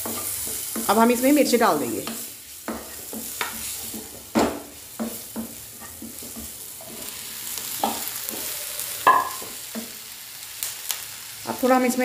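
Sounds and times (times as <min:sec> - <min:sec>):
spatula scraping and knocking pan: 0:00.0 - 0:10.0
chillies sizzling in hot oil: 0:00.0 - 0:12.0.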